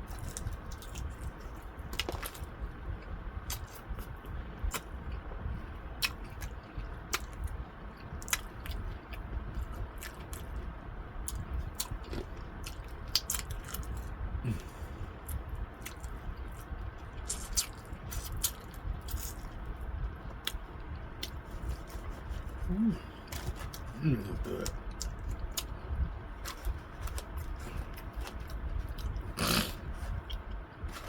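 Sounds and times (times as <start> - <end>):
person chewing crunchy food: 0.0 - 10.6, 11.2 - 31.0.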